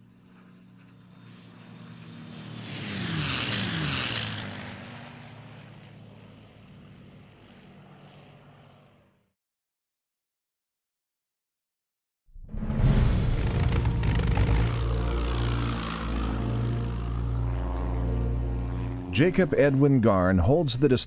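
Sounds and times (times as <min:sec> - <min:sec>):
propeller airplane flying past: 0:00.0 - 0:09.4, 0:12.9 - 0:21.0.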